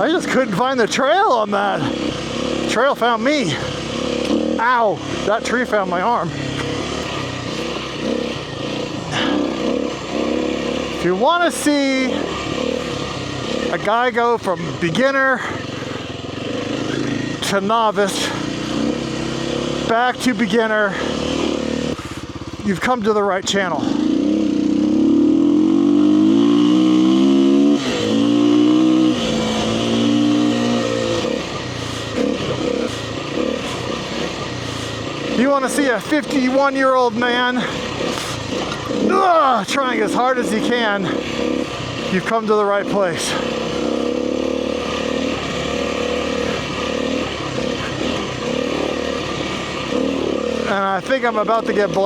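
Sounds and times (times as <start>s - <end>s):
dirt bike engine pulling hard: 0.0s - 52.0s.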